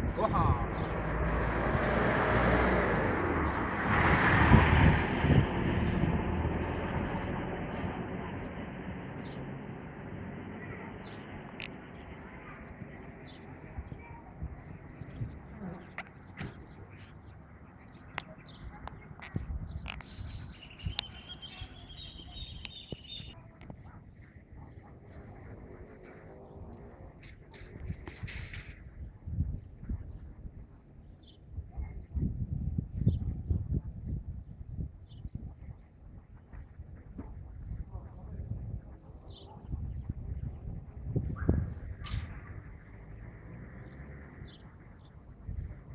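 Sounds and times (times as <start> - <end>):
birds chirping and calling: 0.0 - 1.9, 5.8 - 32.1, 37.0 - 45.9
wind: 0.0 - 45.9.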